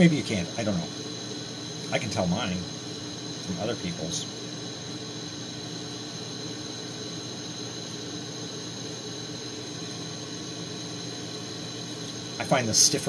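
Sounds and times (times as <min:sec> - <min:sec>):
torch burning with rushing noise: 0:00.0 - 0:13.0.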